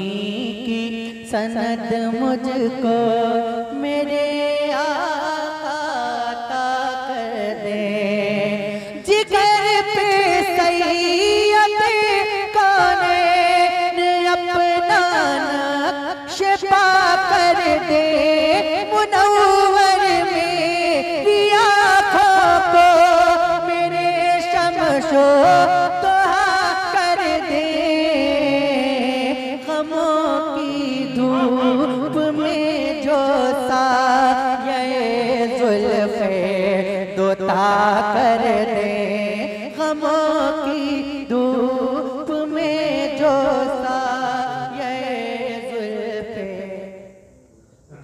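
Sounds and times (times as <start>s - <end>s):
man singing ornamented lines: 0.0s - 48.0s.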